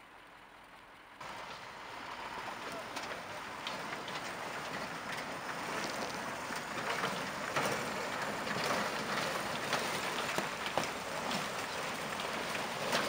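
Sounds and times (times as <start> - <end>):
wheels splashing through icy water: 0.0 - 13.0.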